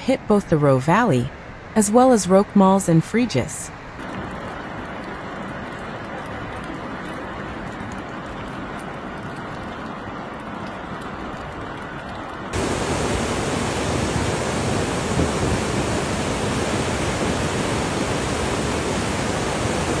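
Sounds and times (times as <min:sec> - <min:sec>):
rushing floodwater: 0:04.0 - 0:20.0.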